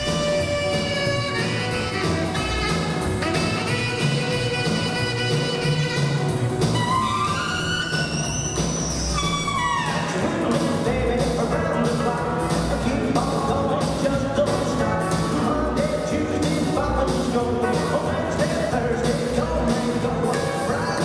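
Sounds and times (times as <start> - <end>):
rock and roll music: 0.0 - 21.0.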